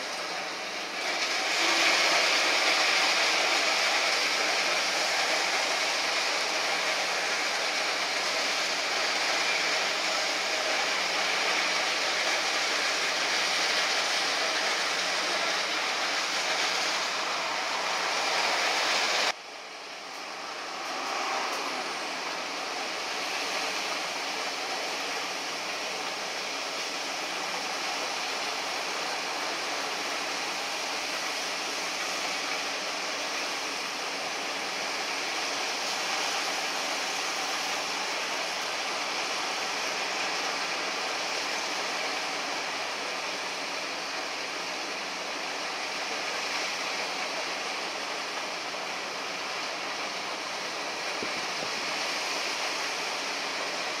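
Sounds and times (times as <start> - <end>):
ice rushing down a chute: 0.0 - 19.4, 20.4 - 54.0.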